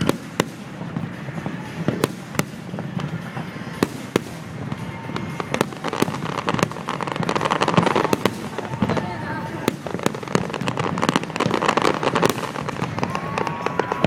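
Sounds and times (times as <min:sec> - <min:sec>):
fireworks bangs: 0:00.0 - 0:14.0
fireworks crackling volley: 0:00.0 - 0:14.0.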